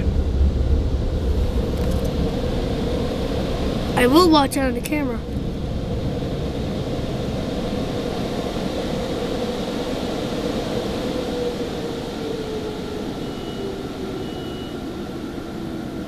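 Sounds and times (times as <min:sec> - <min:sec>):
car wash dryer blowers: 0:00.0 - 0:16.0.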